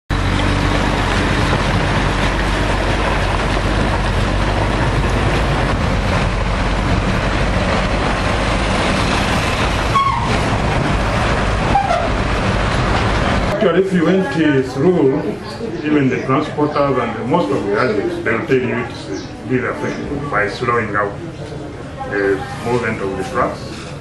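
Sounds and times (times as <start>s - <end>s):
road noise: 0.1s - 24.0s
truck engine drone: 0.1s - 24.0s.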